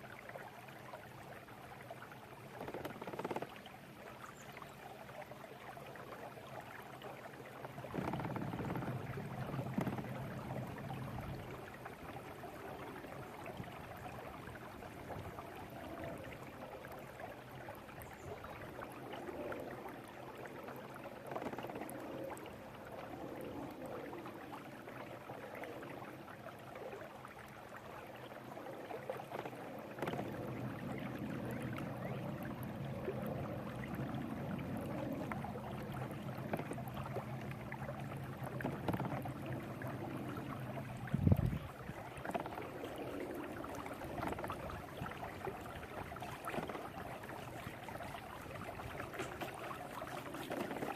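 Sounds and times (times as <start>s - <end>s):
water gurgling and splashing: 0.0s - 50.9s.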